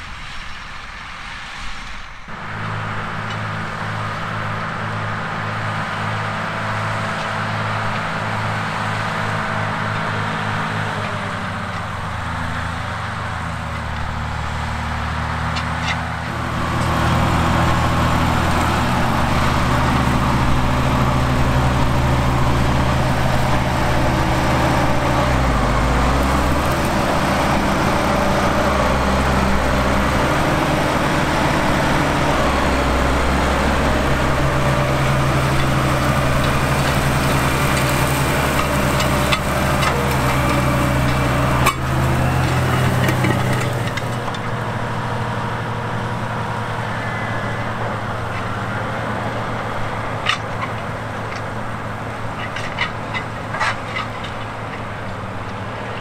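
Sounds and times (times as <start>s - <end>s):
tractor diesel engine running: 2.3s - 56.0s.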